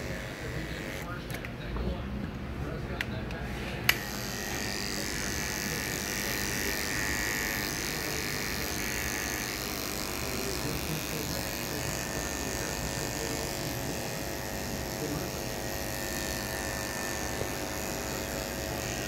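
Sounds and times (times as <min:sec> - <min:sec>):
electric hair clipper buzzing: 0:00.0 - 0:01.2, 0:03.5 - 0:19.0.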